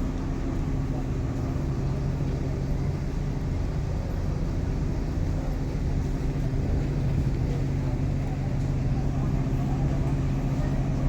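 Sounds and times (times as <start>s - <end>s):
travel noise: 0.0s - 11.0s.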